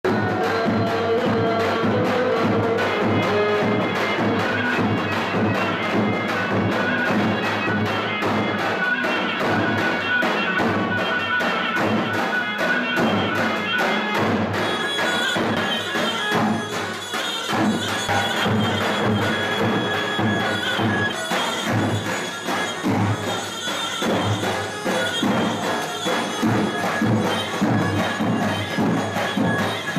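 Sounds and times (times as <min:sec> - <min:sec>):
drums beating steady rhythm: 0:00.0 - 0:29.9
shawm melody: 0:00.0 - 0:29.9.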